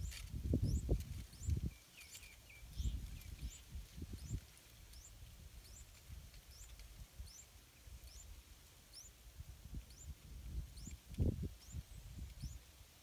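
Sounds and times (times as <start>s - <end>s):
small bird chirping: 0.0s - 12.8s.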